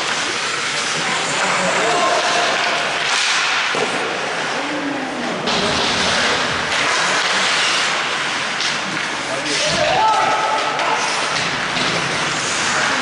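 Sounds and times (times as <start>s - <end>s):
skate blades scraping ice: 0.0s - 4.6s, 5.4s - 13.0s.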